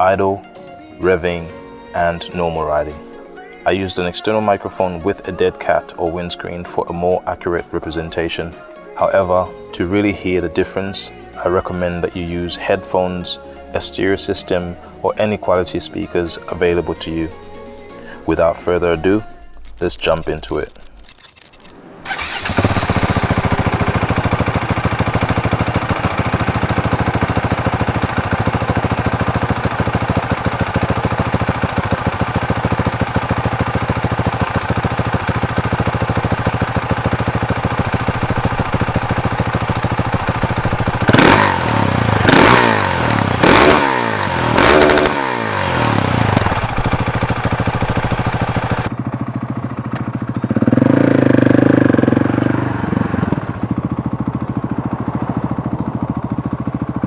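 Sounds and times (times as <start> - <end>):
motorcycle engine idling: 0.0 - 21.1, 22.1 - 57.0
motorcycle engine revving: 1.0 - 57.0
motorcycle pulling away: 1.0 - 57.0.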